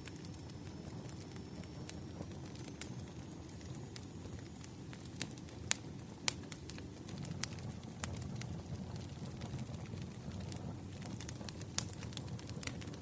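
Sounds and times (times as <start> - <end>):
fire flames rumbling: 0.0 - 13.0
fire pops and snaps: 0.0 - 13.0.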